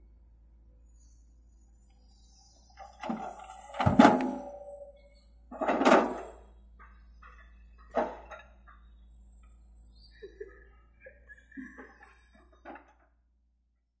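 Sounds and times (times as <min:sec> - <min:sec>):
faint low engine hum: 0:00.0 - 0:13.9.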